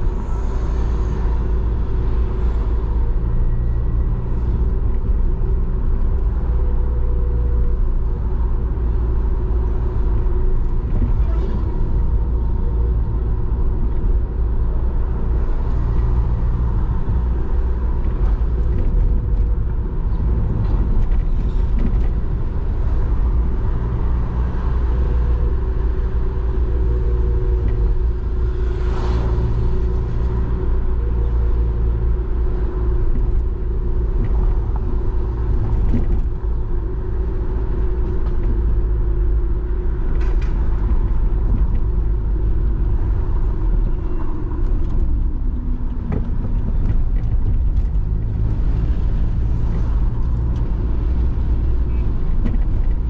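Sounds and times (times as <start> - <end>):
car driving rumble: 0.0 - 53.0.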